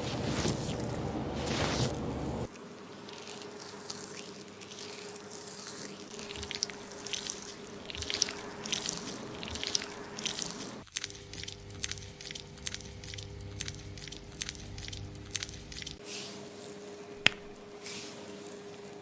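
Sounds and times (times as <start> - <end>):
faint steady hum: 0.0 - 16.0
fingers scrubbing lathered hair: 0.0 - 16.0.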